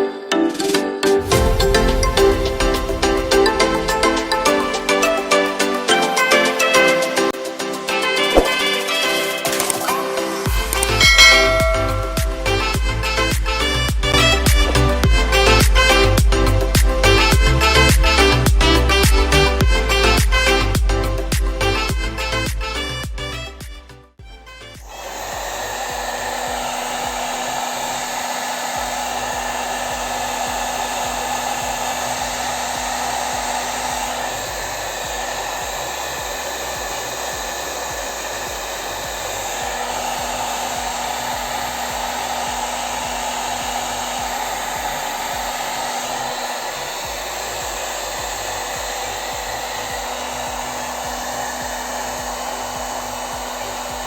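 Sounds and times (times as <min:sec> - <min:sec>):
hair dryer running: 0:01.2 - 0:54.0.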